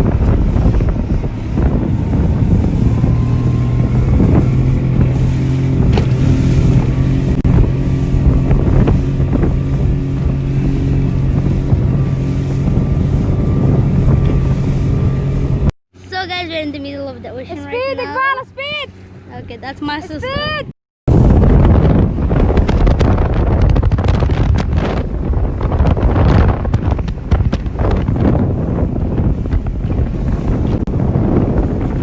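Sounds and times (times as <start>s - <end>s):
motorboat engine at speed: 0.0s - 32.0s
wind buffeting microphone: 0.0s - 32.0s.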